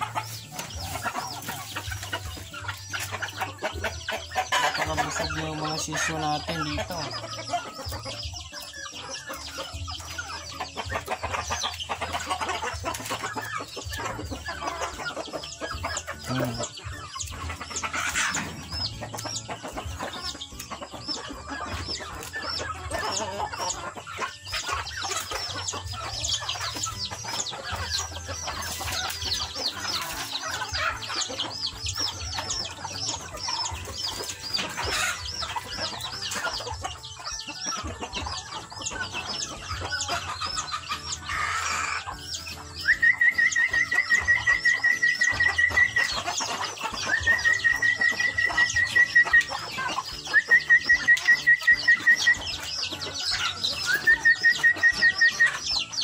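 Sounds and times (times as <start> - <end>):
chickens clucking: 0.0 - 56.0
chicks chirping: 0.0 - 56.0.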